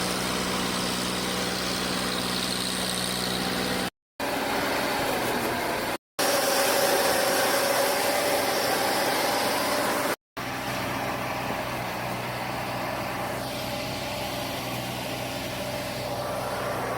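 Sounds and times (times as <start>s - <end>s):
harvester engine running: 0.0s - 16.9s.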